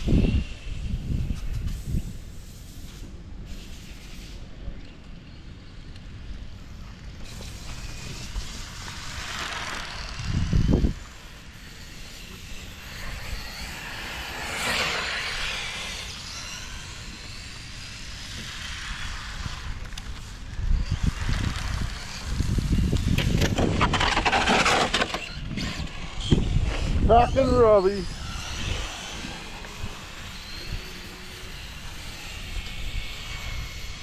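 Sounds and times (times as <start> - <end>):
electric toy cars whining past: 0.0 - 4.2, 5.2 - 34.0.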